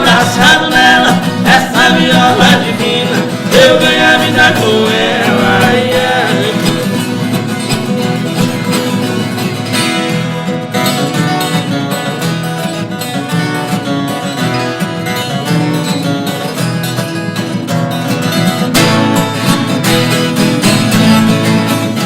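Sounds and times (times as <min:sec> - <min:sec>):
folk guitar plucked and strummed: 0:00.0 - 0:22.0.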